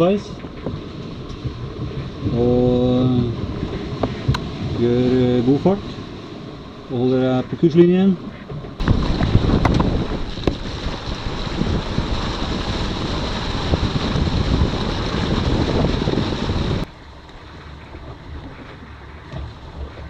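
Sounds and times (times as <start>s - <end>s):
sea washing past boat: 0.0s - 20.0s
wind buffeting microphone: 0.0s - 20.0s.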